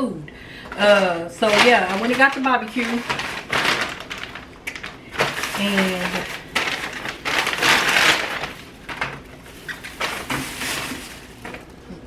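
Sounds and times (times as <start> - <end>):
paper and plastic bags rustling: 0.7 - 12.0.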